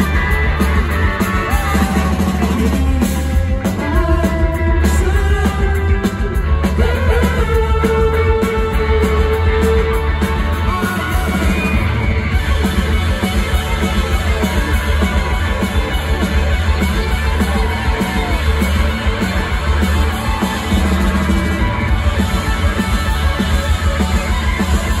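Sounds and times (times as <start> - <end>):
bass: 0.0 - 25.0
distorted electric guitars: 0.0 - 25.0
pounding drums: 0.0 - 25.0.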